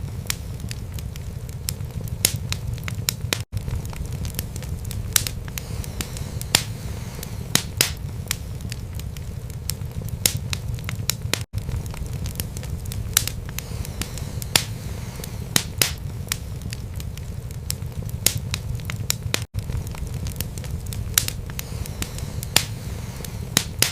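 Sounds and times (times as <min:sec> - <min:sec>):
fire crackling and popping: 0:00.0 - 0:23.9
flames rumbling: 0:00.0 - 0:23.9.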